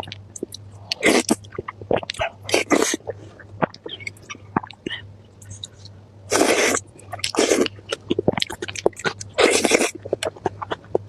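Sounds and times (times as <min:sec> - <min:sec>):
biting or slurping bursts: 0:00.0 - 0:05.0, 0:06.3 - 0:11.0
chewing with wet mouth clicks: 0:00.0 - 0:11.0.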